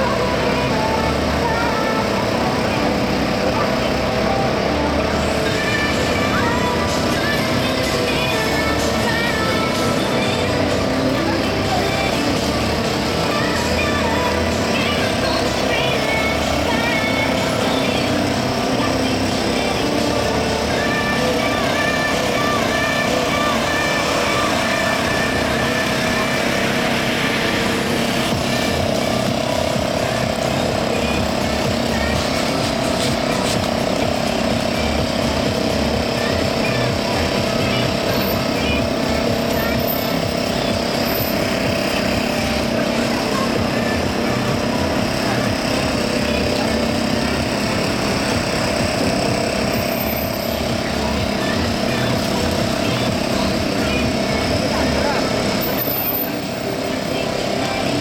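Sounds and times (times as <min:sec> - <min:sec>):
engine-like hum: 0:00.0 - 0:58.0
traffic on wet street: 0:00.0 - 0:58.0.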